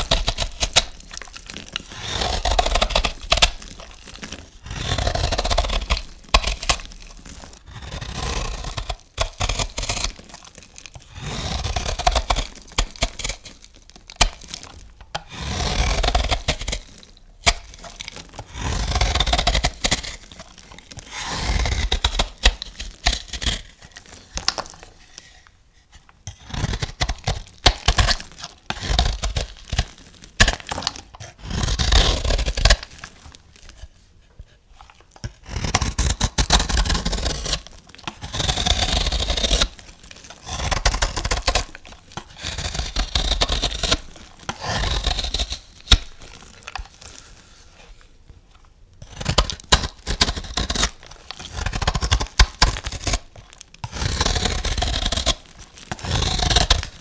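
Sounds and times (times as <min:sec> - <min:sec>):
knife cutting through soap: 0:00.0 - 0:57.0.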